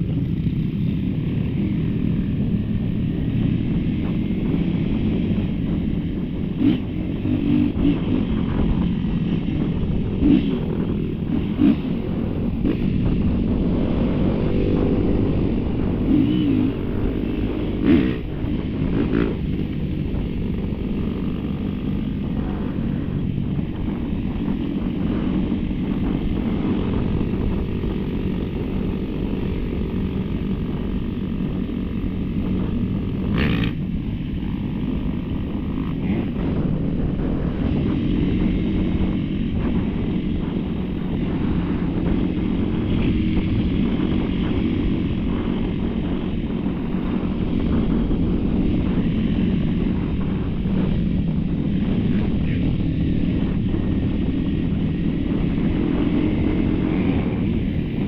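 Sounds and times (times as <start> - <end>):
dirt bike engine revving: 0.0 - 58.0
wind buffeting microphone: 0.0 - 58.0.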